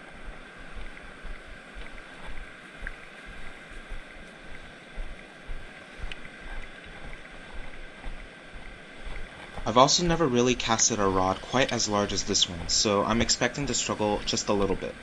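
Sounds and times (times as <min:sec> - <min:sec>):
ocean surf: 0:00.0 - 0:15.0
soft low thumps: 0:00.0 - 0:15.0
wind on microphone: 0:00.0 - 0:15.0.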